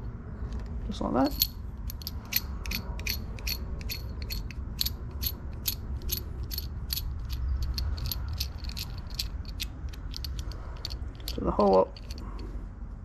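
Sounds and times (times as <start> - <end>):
nut spinning on bolt threads: 1.3 - 12.4.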